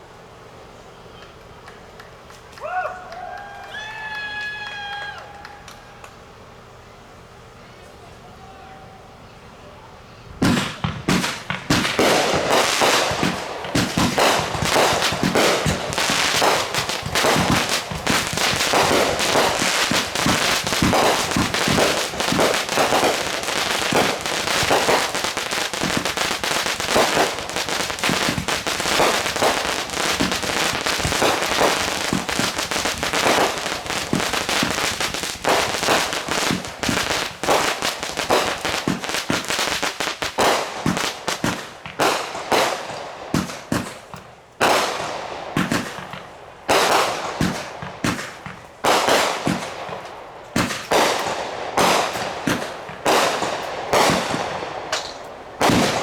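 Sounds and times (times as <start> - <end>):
fireworks bangs and crackles: 10.4 - 56.0.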